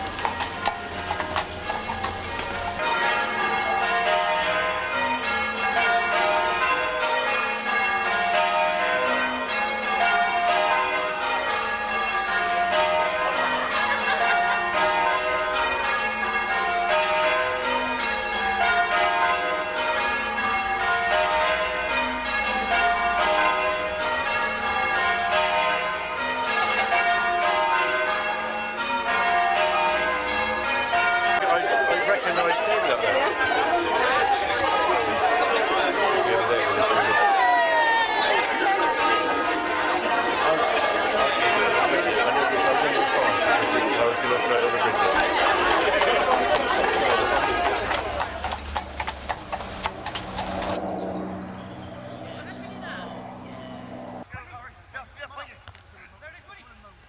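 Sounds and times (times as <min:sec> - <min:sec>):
church bells change-ringing: 0:00.0 - 0:54.3.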